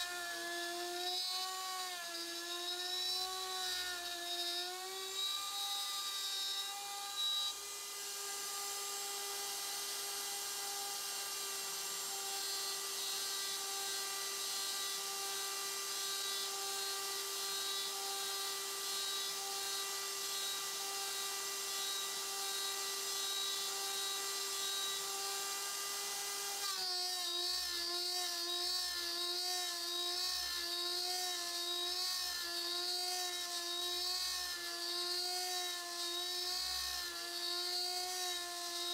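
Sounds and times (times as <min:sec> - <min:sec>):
router spindle whining: 0:00.0 - 0:38.9.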